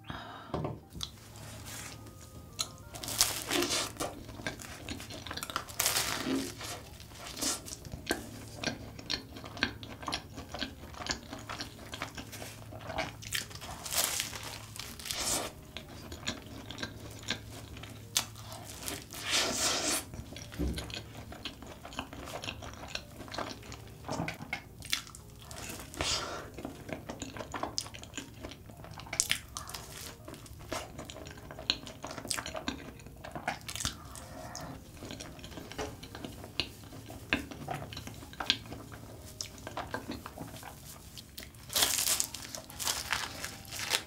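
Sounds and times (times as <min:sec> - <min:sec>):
biting and chewing: 0:02.0 - 0:44.0.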